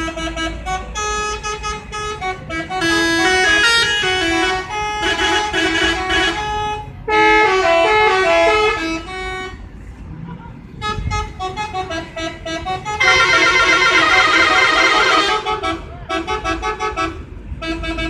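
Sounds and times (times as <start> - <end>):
multi-tone air horns playing tunes: 0.0 - 9.6, 10.8 - 18.0.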